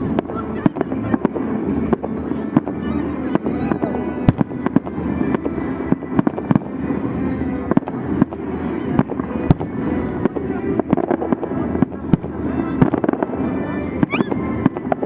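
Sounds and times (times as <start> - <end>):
background music: 0.0 - 15.0
voices: 0.0 - 15.0.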